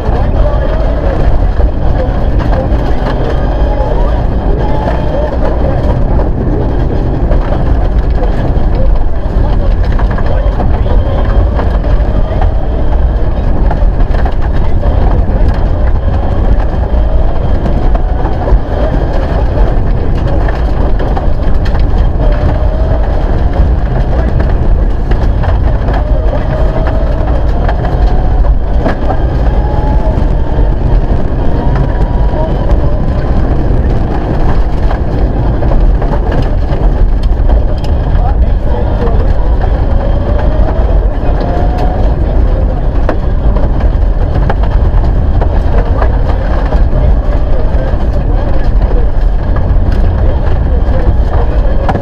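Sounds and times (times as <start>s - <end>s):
turbocharged car engine revving: 0.0s - 52.0s
tyres rumbling on gravel: 0.0s - 52.0s.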